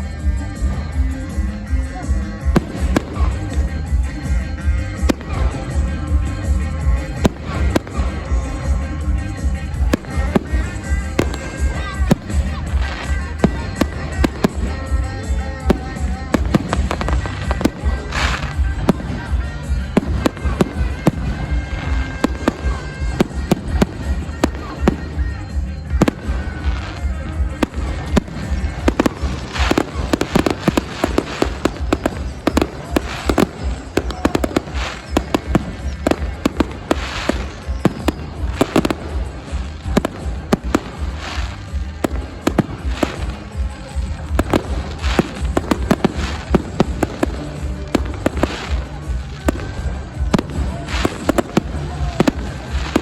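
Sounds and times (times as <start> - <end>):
fireworks bursting and crackling: 0.0 - 53.0
music playing: 0.0 - 53.0.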